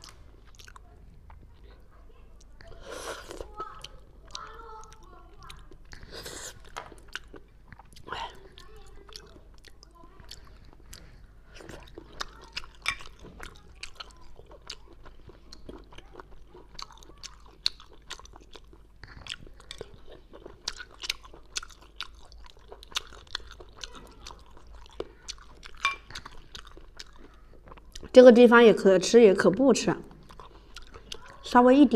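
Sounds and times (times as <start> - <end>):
wet chewing clicks and smacks: 0.0 - 1.8, 2.4 - 28.2, 30.1 - 31.4.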